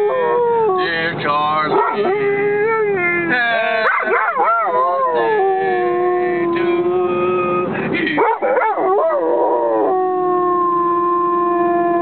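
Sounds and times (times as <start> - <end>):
dog howling: 0.0 - 0.9, 1.7 - 7.2, 8.4 - 12.0.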